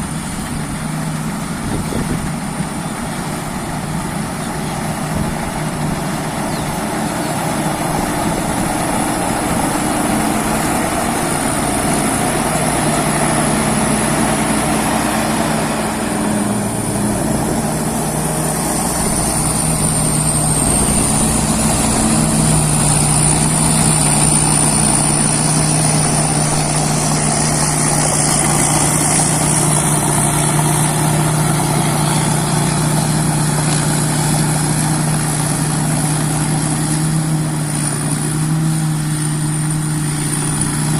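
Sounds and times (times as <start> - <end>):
high-pitched whine: 0.0 - 36.1
combine harvester diesel engine: 0.0 - 40.9.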